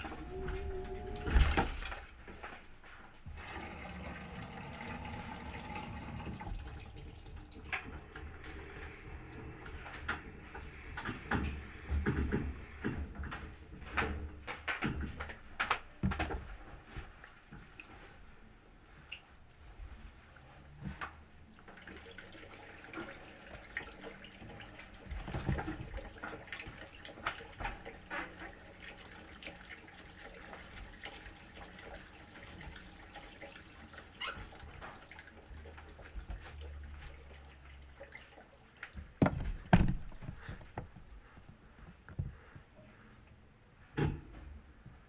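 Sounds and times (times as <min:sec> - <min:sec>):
water splashing in washing machine: 0:00.0 - 0:41.0.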